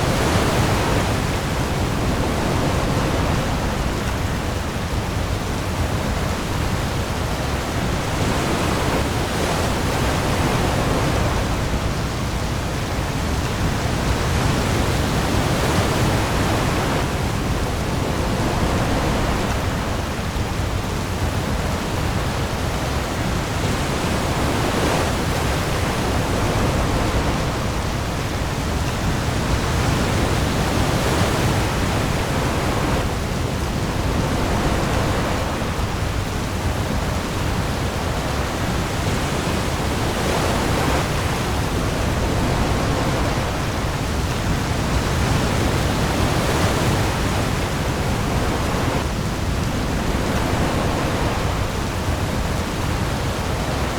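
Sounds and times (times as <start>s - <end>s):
heavy rain on the sea: 0.0s - 53.9s
waves: 0.0s - 53.9s.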